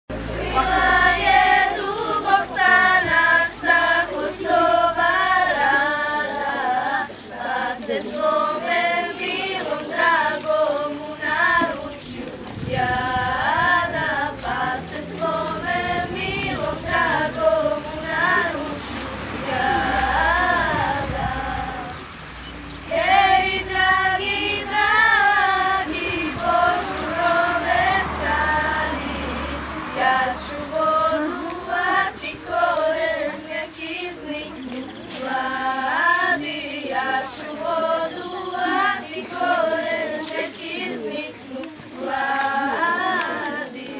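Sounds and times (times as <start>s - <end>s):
girls choir singing: 0.1s - 43.9s.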